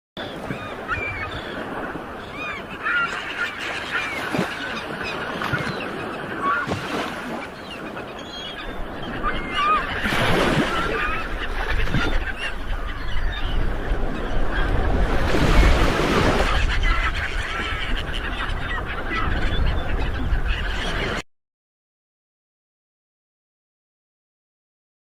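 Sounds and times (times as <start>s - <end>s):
gulls squawking: 0.2s - 21.2s
sea noise: 0.2s - 21.2s
wind: 0.2s - 21.2s.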